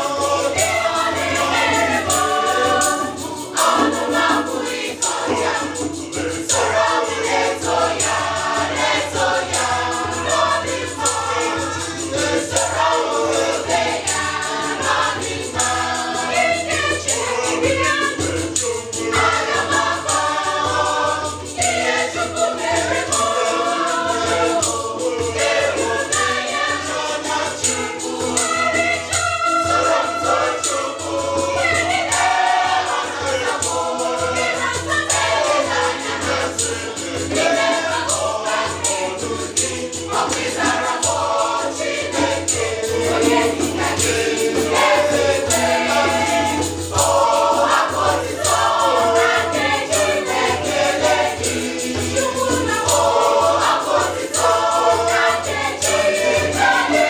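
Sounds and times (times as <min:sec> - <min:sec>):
mixed choir singing gospel: 0:00.0 - 0:57.0.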